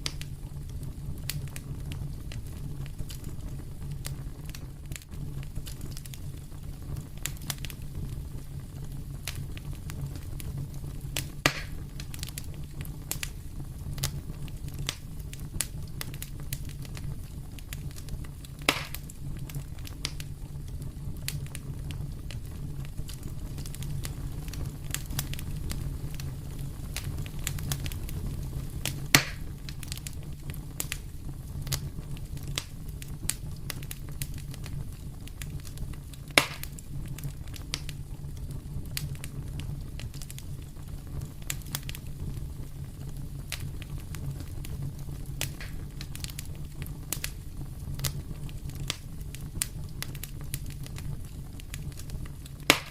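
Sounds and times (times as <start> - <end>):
fire crackling: 0.0 - 52.9
sharp pops of fire: 0.0 - 52.9.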